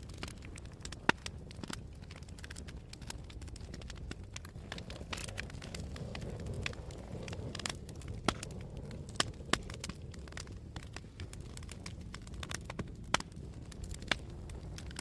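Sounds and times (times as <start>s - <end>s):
loud fire pops: 0.0s - 15.0s
wood fire crackling: 0.0s - 15.0s.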